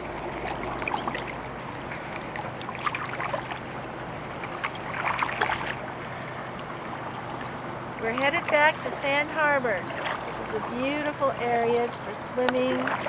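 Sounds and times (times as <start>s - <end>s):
steady low hum: 0.0s - 13.0s
water splashing around kayak: 0.0s - 13.0s.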